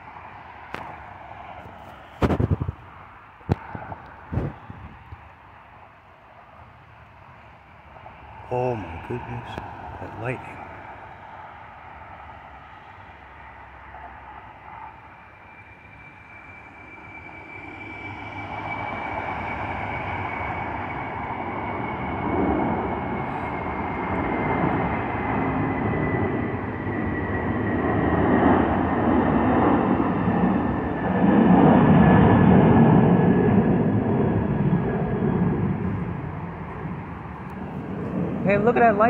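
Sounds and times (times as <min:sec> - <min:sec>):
jet airliner passing overhead: 0:00.0 - 0:39.0.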